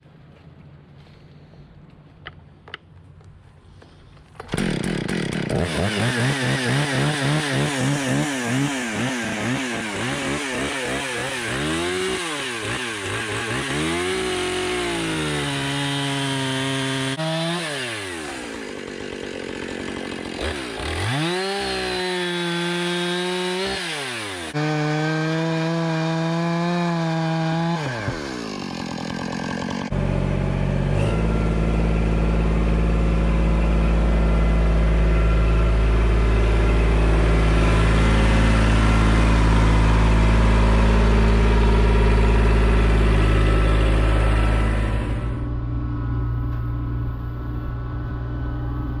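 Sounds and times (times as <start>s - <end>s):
chainsaw engine revving: 4.4s - 45.4s.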